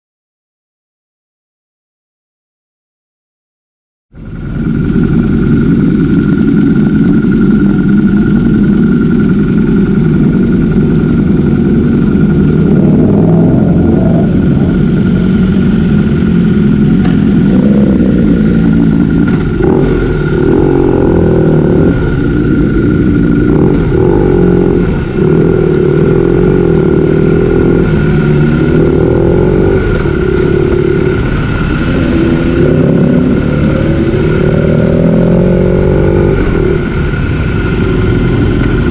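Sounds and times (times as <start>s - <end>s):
motorcycle engine running: 4.2s - 38.9s.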